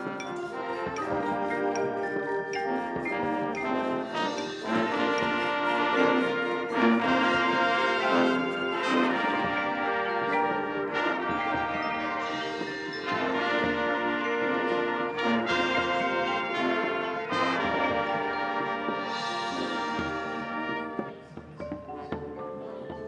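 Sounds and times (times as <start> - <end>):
marching band brass chords: 0.0 - 21.6.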